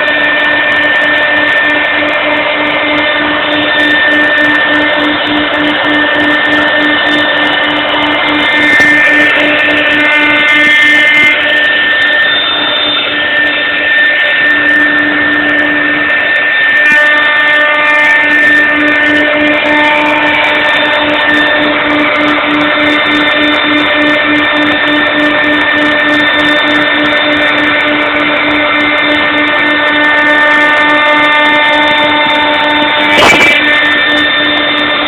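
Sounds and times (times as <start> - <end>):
low pulsing hum: 0.0 - 35.0
router cutting wood: 0.0 - 35.0
router spindle whine: 0.0 - 35.0.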